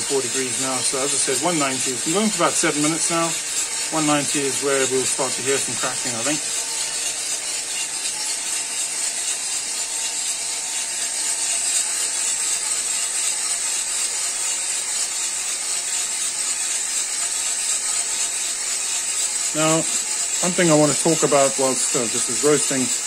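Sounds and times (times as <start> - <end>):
coffee beans tumbling in drum: 0.0 - 23.0.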